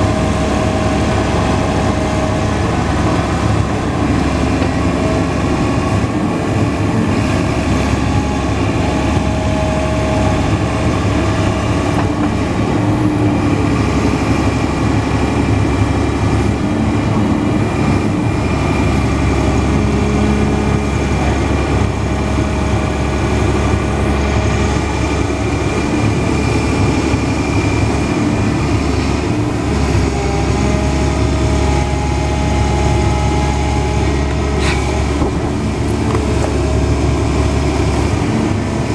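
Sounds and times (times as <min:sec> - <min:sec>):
excavator diesel engine running: 0:00.0 - 0:38.9
hydraulic whining: 0:00.0 - 0:38.9.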